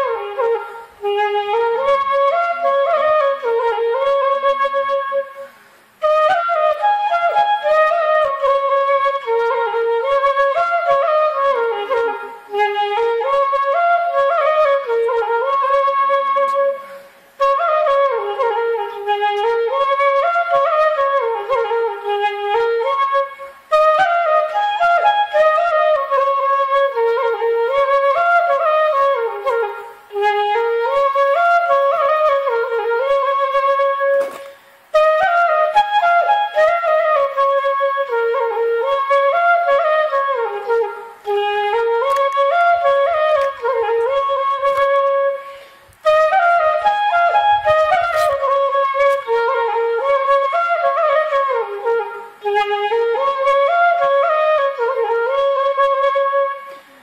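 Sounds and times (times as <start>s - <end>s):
flute melody: 0.0s - 57.0s.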